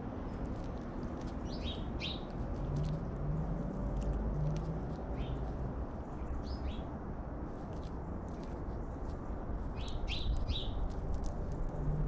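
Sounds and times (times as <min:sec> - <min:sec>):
small birds chirping: 0:00.1 - 0:07.0, 0:07.6 - 0:12.0.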